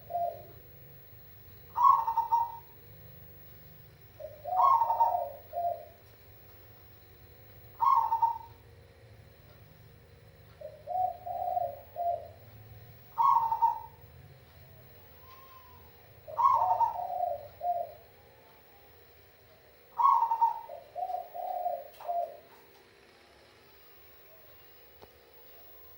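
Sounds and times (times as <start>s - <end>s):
dove cooing: 0.0s - 0.8s, 1.6s - 3.4s, 4.0s - 8.8s, 10.3s - 25.9s.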